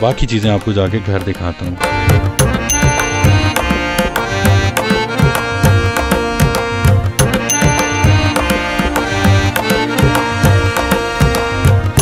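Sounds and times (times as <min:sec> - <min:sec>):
fast percussion rhythm: 0:00.0 - 0:12.0
sustained melodic tones: 0:00.1 - 0:12.0.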